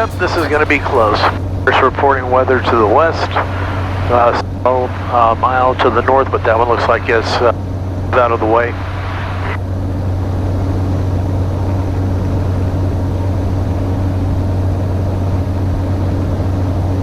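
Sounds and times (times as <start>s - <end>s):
turboprop engine droning: 0.0s - 17.0s.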